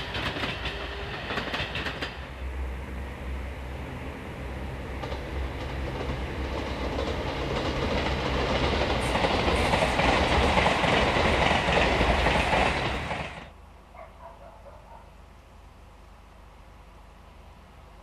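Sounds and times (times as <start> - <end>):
train crossing a bridge: 0.0 - 18.0.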